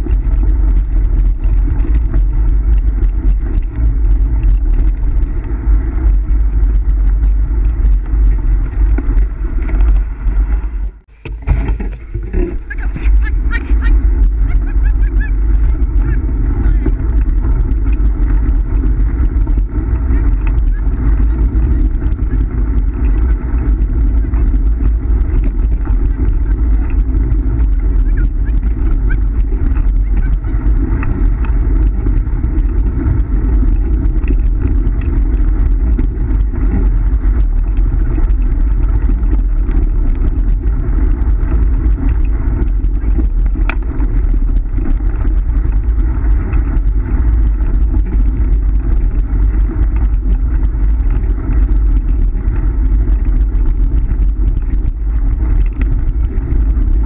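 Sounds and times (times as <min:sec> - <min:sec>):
wheels rolling on gravel: 0:00.0 - 0:57.0
wind buffeting microphone: 0:00.0 - 0:57.0.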